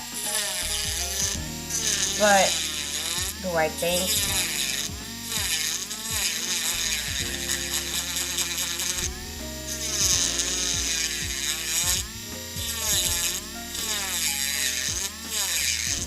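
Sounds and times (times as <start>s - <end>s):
electric nail drill grinding: 0.0s - 16.0s.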